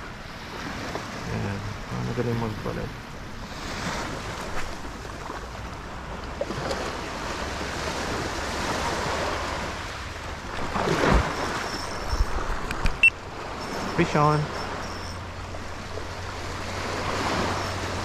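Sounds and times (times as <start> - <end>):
surf washing on shore: 0.0 - 18.0.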